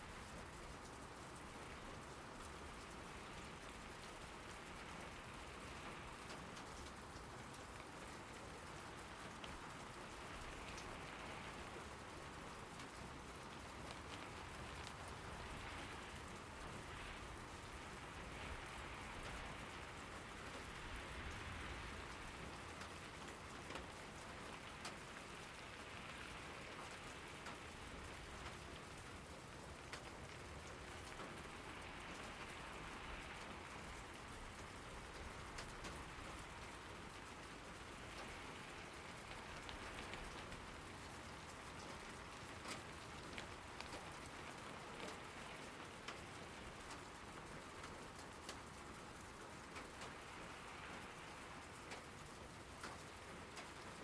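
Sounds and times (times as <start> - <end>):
steady rain with drop ticks: 0.0 - 54.0.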